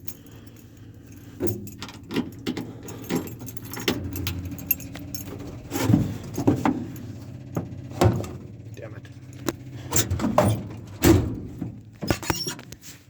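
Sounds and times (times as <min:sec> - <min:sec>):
keys jangling: 0:00.0 - 0:11.1
low steady hum: 0:00.0 - 0:12.1.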